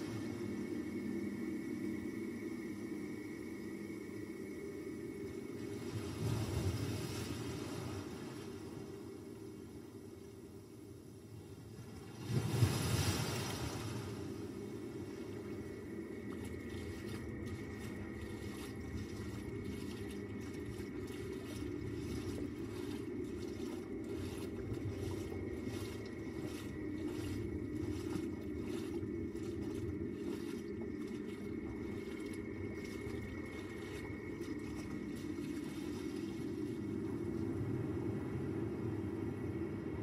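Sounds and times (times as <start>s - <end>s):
low rumbling electronic drone: 0.0s - 6.7s, 14.2s - 40.0s.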